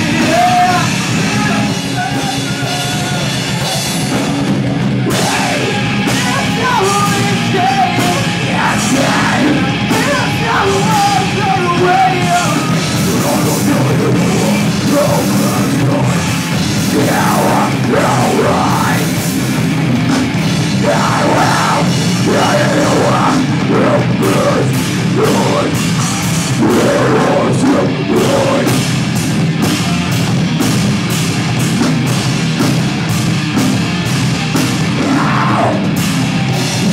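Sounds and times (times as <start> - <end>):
vocalist singing and shouting: 0.0 - 4.3, 5.0 - 29.1, 34.6 - 36.9
fast drum strokes: 0.0 - 36.9
rock band playing loud: 0.0 - 36.9.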